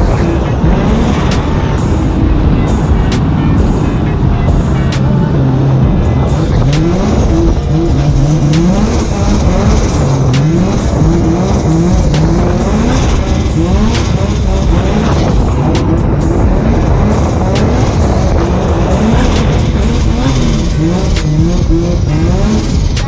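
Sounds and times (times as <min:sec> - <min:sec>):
car engine revving hard: 0:00.0 - 0:23.0
tyre and road noise: 0:00.0 - 0:23.0.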